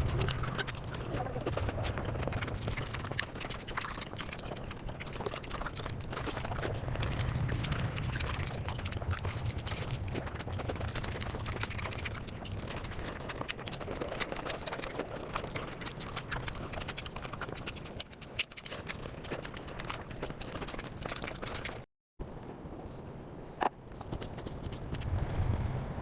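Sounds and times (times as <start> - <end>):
sped-up chewing clicks and smacks: 0.0 - 25.9.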